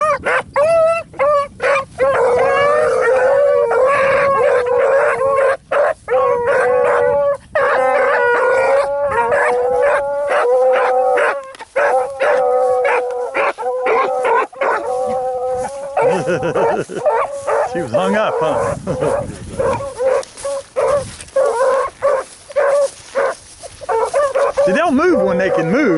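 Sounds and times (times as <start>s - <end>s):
hounds baying: 0.0s - 25.9s.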